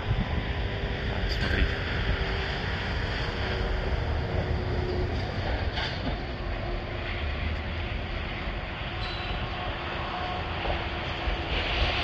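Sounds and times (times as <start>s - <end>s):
highway traffic: 0.0s - 12.0s
wind buffeting microphone: 0.0s - 12.0s.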